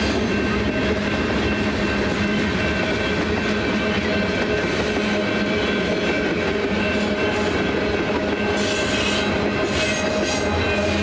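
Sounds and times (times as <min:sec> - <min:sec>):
train wheels rumbling and clattering: 0:00.0 - 0:11.0.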